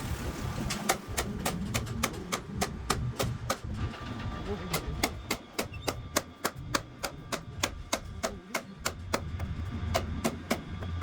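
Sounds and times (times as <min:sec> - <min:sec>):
hammer strikes: 0:00.7 - 0:03.8, 0:04.7 - 0:11.0.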